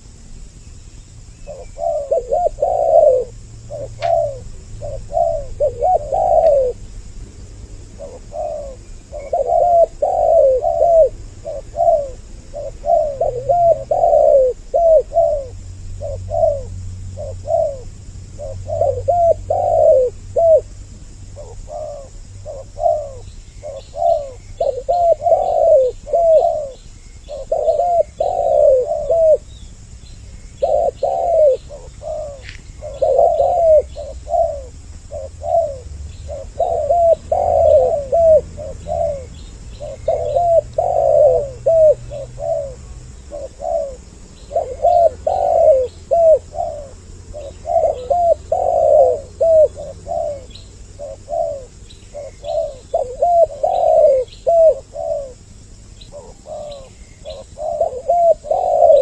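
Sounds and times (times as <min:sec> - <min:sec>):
doves cooing: 0:01.5 - 0:07.1, 0:07.7 - 0:59.0.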